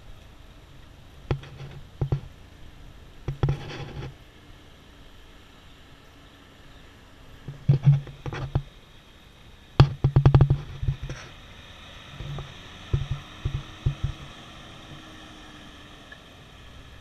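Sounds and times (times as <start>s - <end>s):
faint engine hum: 0.0s - 17.0s.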